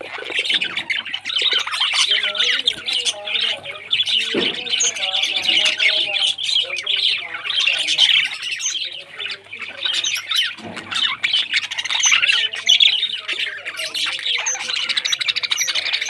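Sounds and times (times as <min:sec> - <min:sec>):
budgerigars chattering: 0:00.0 - 0:16.0.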